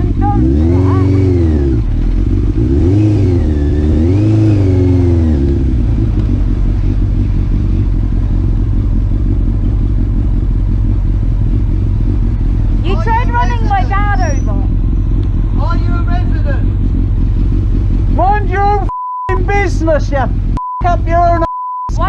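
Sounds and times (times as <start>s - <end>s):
motorcycle engine revving: 0.0s - 21.4s.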